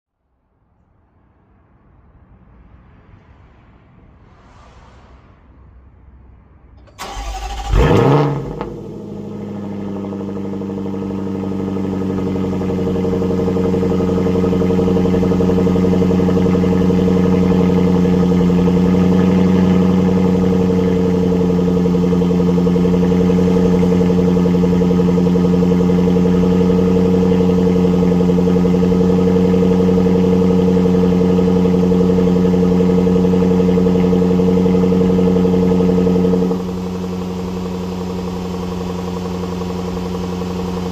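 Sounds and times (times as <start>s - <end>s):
car engine starting and idling: 4.3s - 40.9s.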